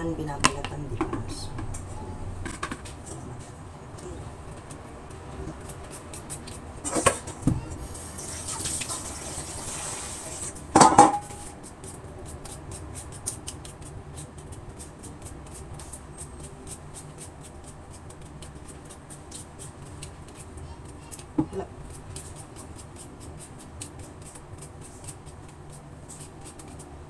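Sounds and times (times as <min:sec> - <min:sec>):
vegetable peeler scraping potato: 0:04.4 - 0:10.6, 0:11.3 - 0:27.0.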